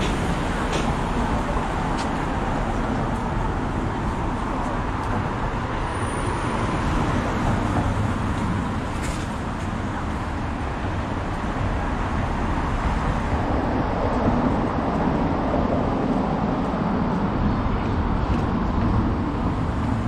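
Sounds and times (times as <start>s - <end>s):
city road traffic: 0.0s - 20.0s.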